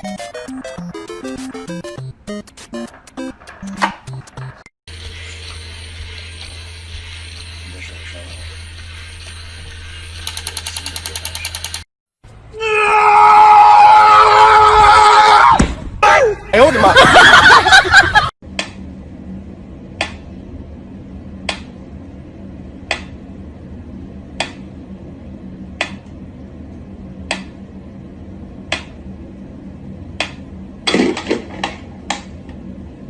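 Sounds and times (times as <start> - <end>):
steady low hum: 0.0 - 11.2, 15.8 - 33.0.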